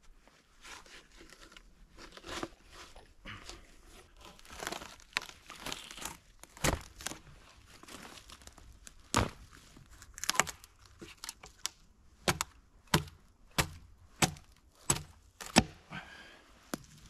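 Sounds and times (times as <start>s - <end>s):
rustling and crunching: 0.0s - 17.0s.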